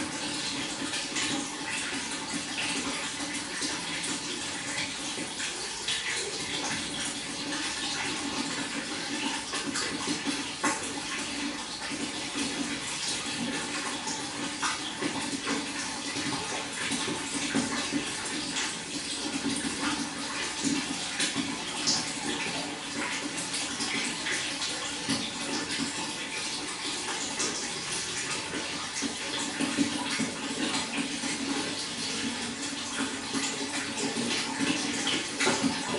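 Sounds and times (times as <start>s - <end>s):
water flowing and splashing: 0.0s - 35.9s.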